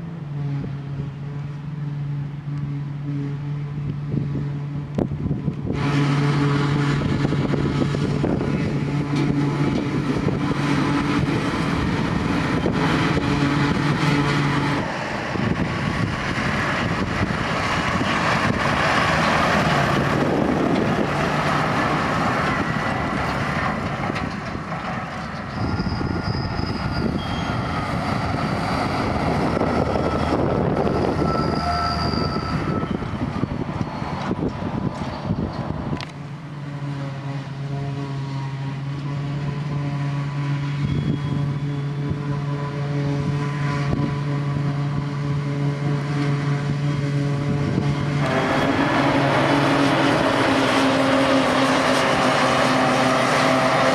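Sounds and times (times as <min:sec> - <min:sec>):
forage harvester engine hum: 0:00.0 - 0:31.6, 0:32.6 - 0:53.9
tractors rumbling past: 0:00.0 - 0:53.9.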